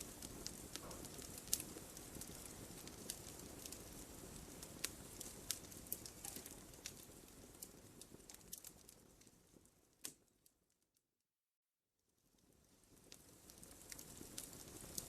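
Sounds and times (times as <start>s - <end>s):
wood fire crackling and popping: 0.0s - 10.8s, 12.2s - 15.0s.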